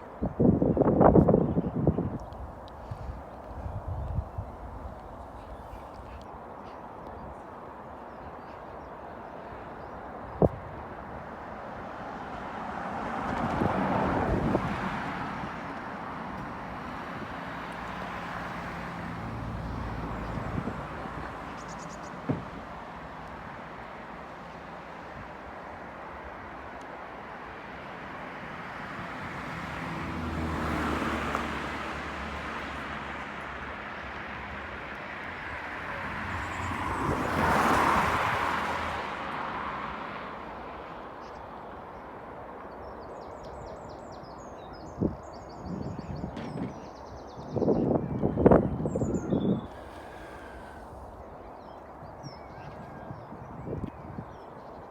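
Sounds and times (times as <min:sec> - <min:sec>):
vehicles passing: 0:09.5 - 0:54.9.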